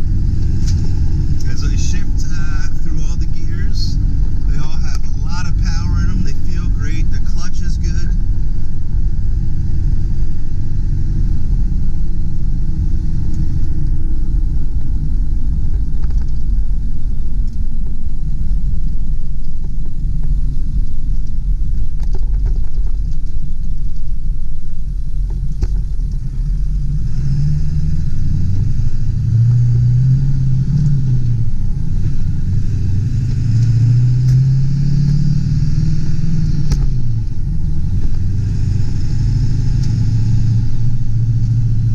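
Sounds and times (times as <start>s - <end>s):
diesel engine rumbling: 0.0s - 41.9s.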